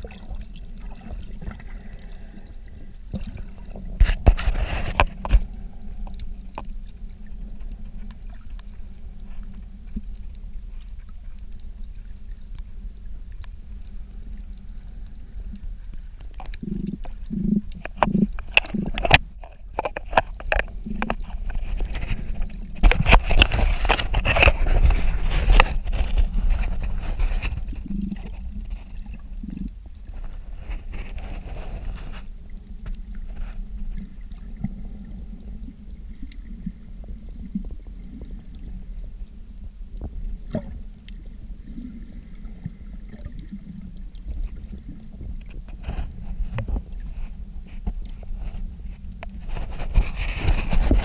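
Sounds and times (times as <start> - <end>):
muffled underwater rumble: 0.0 - 51.0
water sloshing and bubbling: 0.0 - 51.0.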